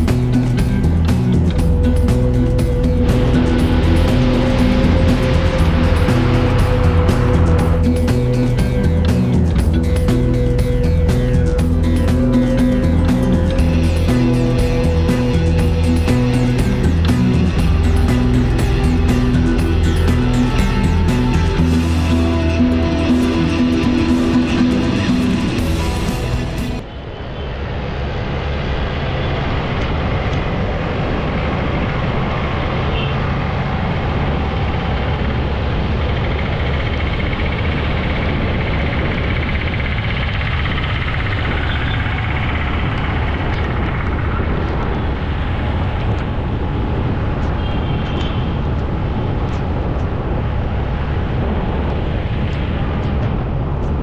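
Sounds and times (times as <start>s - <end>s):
tyre and road rumble: 0.0s - 26.9s, 27.8s - 54.0s
low engine drone: 0.0s - 54.0s.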